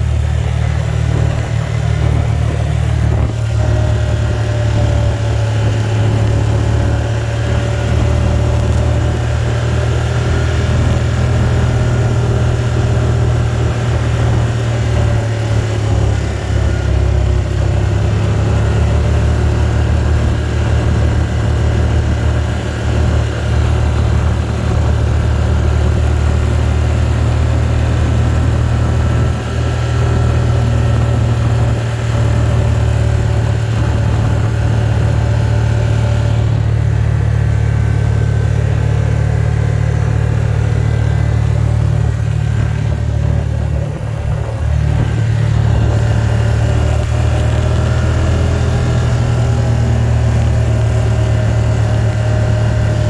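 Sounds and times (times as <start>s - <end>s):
road noise inside cabin: 0.0s - 53.0s
vehicle engine rumble: 0.0s - 53.0s.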